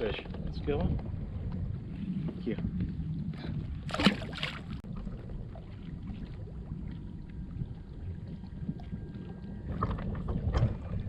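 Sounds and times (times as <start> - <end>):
wind and water rumble: 0.0 - 11.0.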